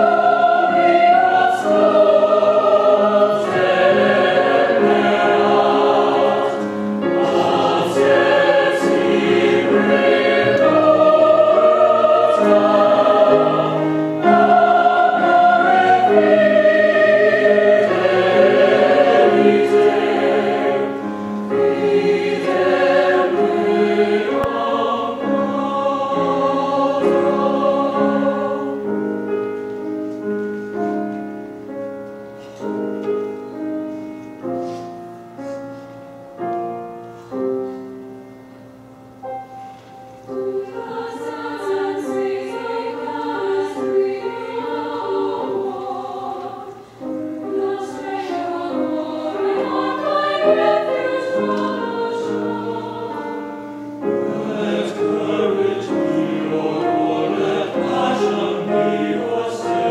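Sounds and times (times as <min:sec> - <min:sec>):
mixed choir singing: 0:00.0 - 0:29.4, 0:40.2 - 0:59.9
grand piano accompaniment: 0:00.0 - 0:59.9.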